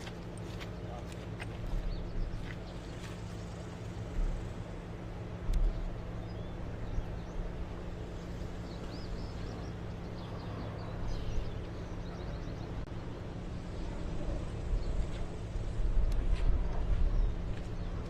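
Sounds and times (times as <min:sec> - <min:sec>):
birds chirping: 0:00.0 - 0:18.0
low engine hum: 0:00.0 - 0:18.0.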